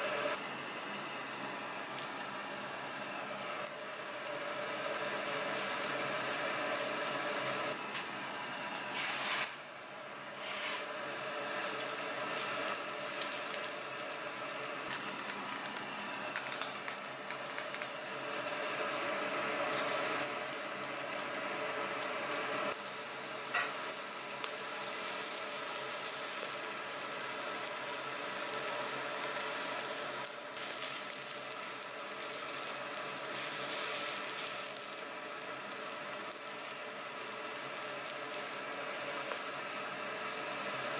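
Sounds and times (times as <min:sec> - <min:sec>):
meat sizzling on a grill: 0:00.0 - 0:40.9.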